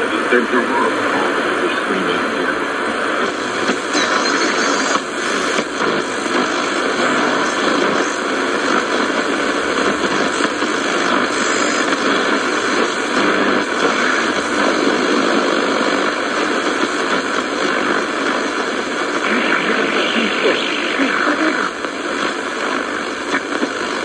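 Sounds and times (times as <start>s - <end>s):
radio static hissing: 0.0s - 24.0s.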